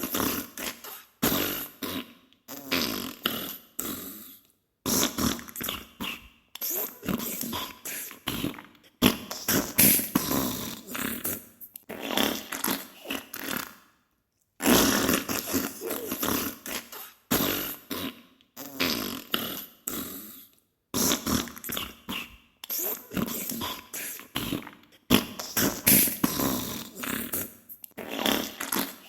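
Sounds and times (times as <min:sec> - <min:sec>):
wet farting noises: 0:00.0 - 0:04.0, 0:04.9 - 0:13.8, 0:14.6 - 0:19.7, 0:21.0 - 0:29.0.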